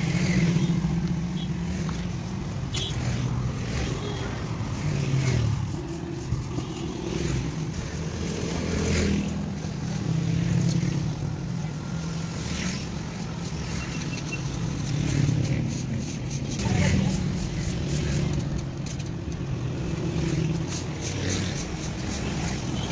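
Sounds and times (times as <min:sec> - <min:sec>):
rumble of street traffic: 0:00.0 - 0:22.9.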